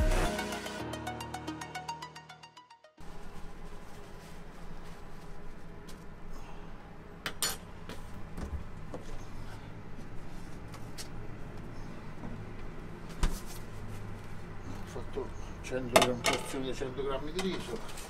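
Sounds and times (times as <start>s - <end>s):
steady low hum: 3.0s - 18.0s.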